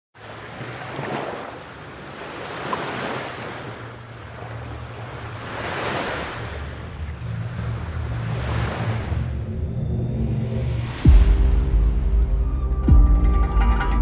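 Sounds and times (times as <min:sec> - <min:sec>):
sea waves washing in: 0:00.2 - 0:12.2.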